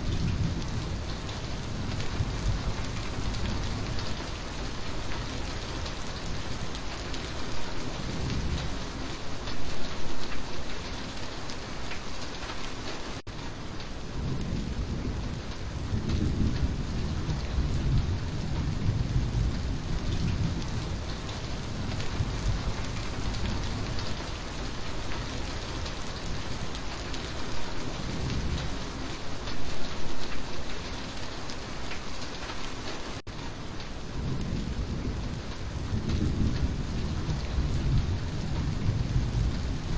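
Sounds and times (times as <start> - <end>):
thunder rumbling: 0.0 - 9.2, 14.0 - 30.6, 33.5 - 39.9
heavy rain falling: 0.0 - 39.9.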